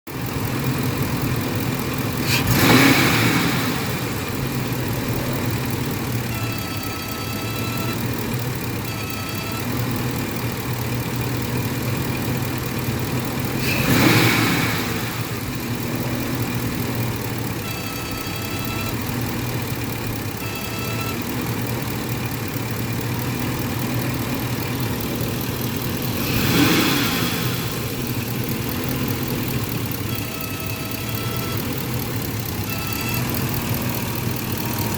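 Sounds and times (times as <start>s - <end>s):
truck engine idling and revving: 0.0s - 34.9s.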